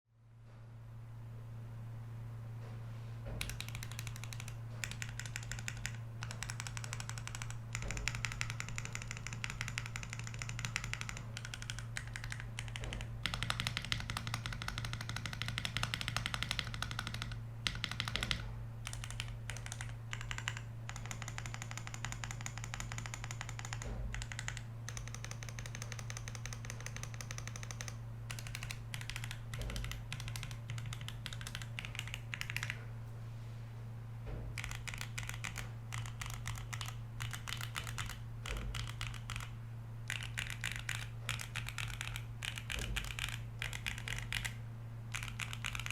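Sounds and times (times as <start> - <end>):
steady low hum: 0.1 - 45.9
fast typing on mechanical keyboard: 3.4 - 32.8, 34.5 - 45.9.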